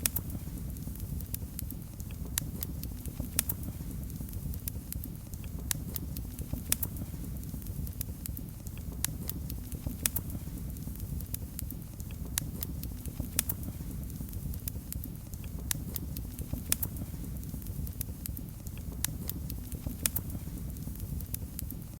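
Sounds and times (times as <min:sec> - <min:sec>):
low rumble of flames: 0:00.0 - 0:21.9
wood fire crackling and popping: 0:00.0 - 0:21.9.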